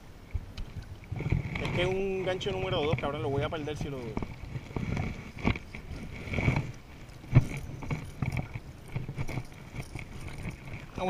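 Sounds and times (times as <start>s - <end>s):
waves slapping a kayak hull: 0.0s - 11.0s.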